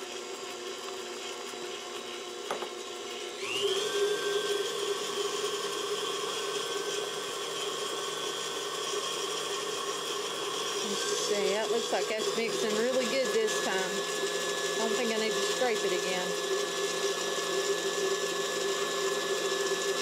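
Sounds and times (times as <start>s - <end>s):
stand mixer beating batter: 0.0s - 20.0s.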